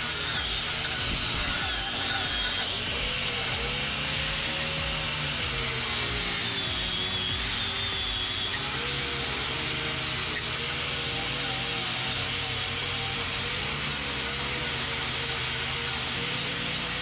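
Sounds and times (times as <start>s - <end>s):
wire brush scrubbing steel: 0.0s - 17.0s.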